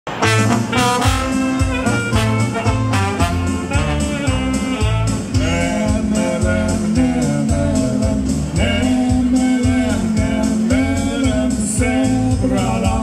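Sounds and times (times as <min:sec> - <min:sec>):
saxophone: 0:00.1 - 0:12.0
polka band playing: 0:00.1 - 0:13.0
trombone: 0:00.1 - 0:13.0.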